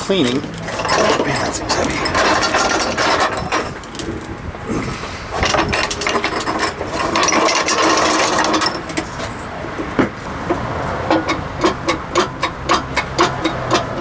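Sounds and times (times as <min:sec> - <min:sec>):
floor jack clicking and rattling: 0:00.0 - 0:14.0.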